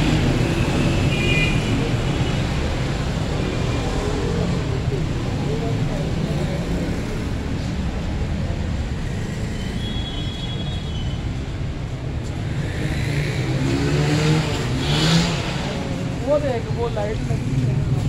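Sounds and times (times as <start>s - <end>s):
rumble of vehicle engines: 0.0s - 18.0s.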